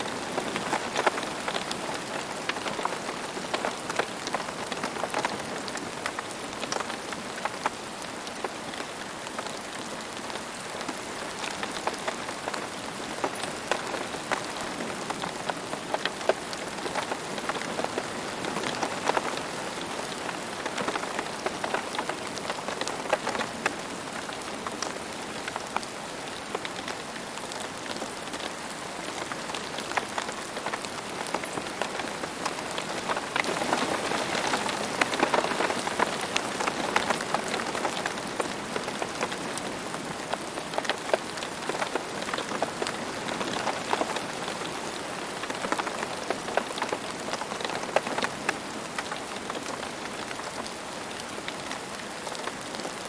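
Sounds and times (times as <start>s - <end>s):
rain pattering on hard surface: 0.0s - 53.0s.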